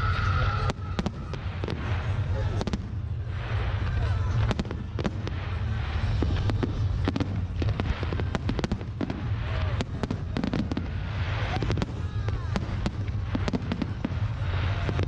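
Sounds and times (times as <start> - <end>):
fireworks bangs and crackles: 0.0 - 15.0
steady low rumble: 0.0 - 15.0.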